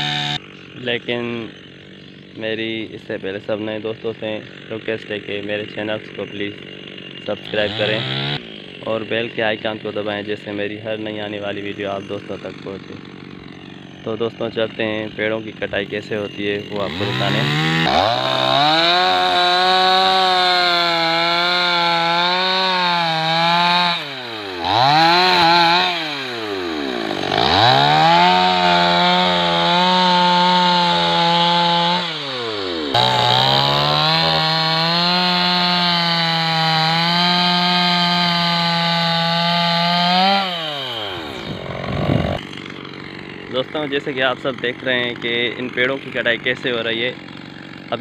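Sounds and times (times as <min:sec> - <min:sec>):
chainsaw cutting branches: 0:00.0 - 0:48.0.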